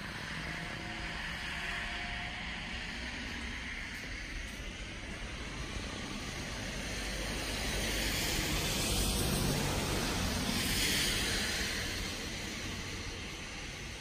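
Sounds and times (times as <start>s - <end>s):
rushing noise with low rumble: 0.0s - 14.0s.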